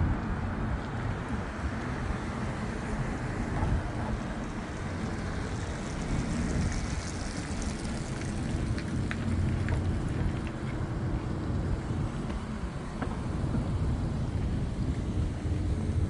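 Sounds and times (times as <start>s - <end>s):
cars passing close by: 0.0s - 16.0s.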